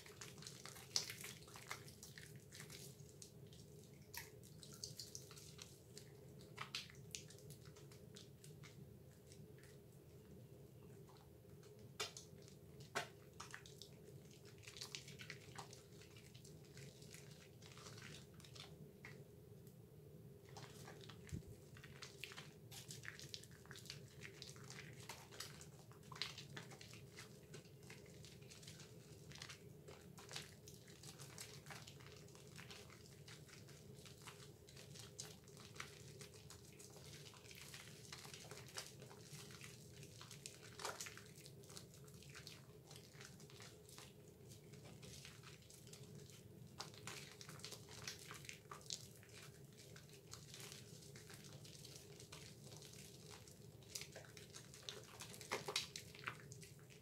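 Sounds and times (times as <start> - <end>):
soapy hands squishing lather: 0.0 - 19.8, 20.4 - 57.0.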